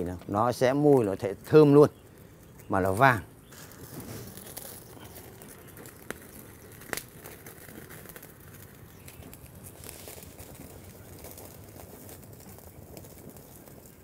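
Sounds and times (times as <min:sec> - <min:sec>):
burning leaves crackling: 0:00.0 - 0:14.0.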